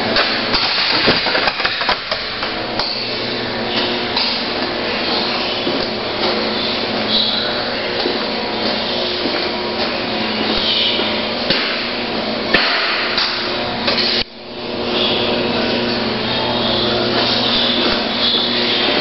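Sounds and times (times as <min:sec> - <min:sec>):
ventilation machine hum: 0:00.0 - 0:19.0.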